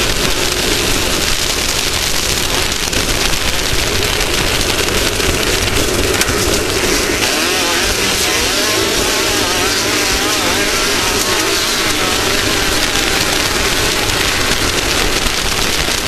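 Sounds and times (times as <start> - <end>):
engine revving: 0.0 - 16.0
steady rushing noise: 0.0 - 16.0.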